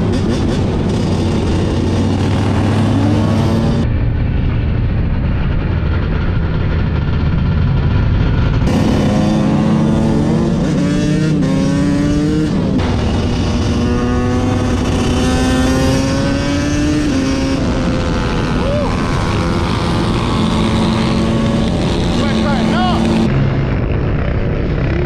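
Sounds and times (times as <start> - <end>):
motorbike engines revving: 0.0 - 25.0.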